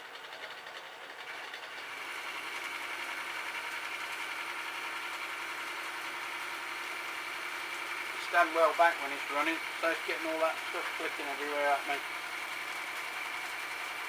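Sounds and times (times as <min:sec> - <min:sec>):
metal lathe cutting metal: 0:01.2 - 0:14.0.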